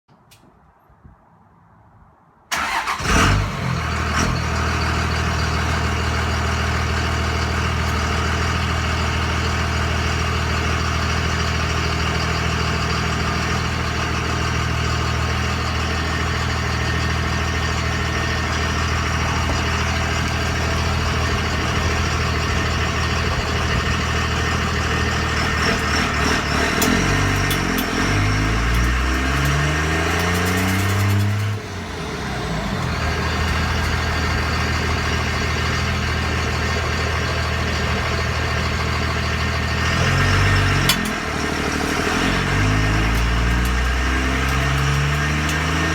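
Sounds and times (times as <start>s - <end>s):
diesel truck engine idling and revving: 2.5s - 45.9s.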